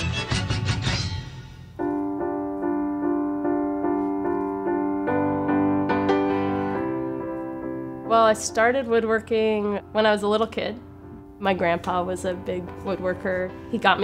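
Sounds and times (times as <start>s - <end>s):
piano-like keyboard music: 0.0s - 14.0s.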